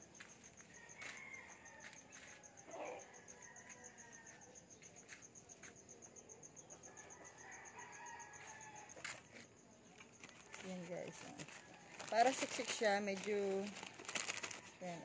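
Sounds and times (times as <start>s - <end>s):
distant chickens clucking and crowing: 0.0s - 15.0s.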